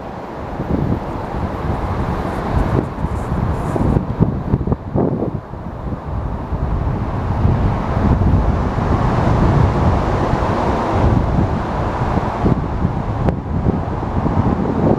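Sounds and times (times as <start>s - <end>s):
passing vehicles rumbling: 0.0s - 14.9s
wind buffeting microphone: 0.0s - 14.9s.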